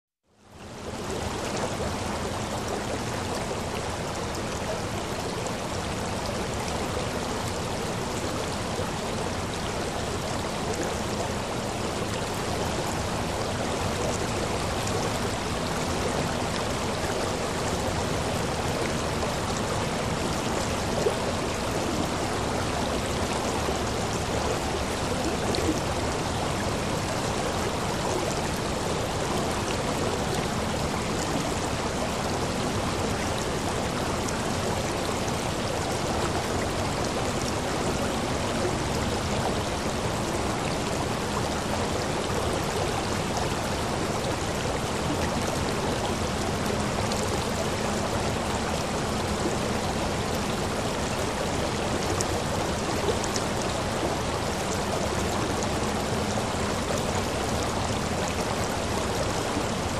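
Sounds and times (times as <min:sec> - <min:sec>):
water trickling over rocks: 0:00.4 - 0:59.9.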